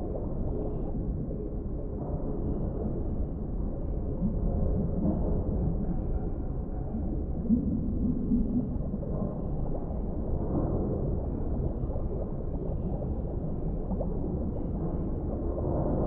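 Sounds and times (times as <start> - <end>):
underwater low rumble: 0.0 - 16.0
water gurgles: 0.0 - 16.0.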